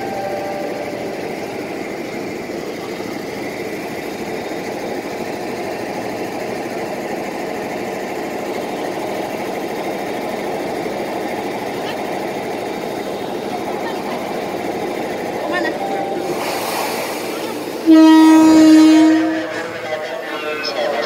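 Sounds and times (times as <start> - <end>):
electric train humming: 0.0 - 21.0.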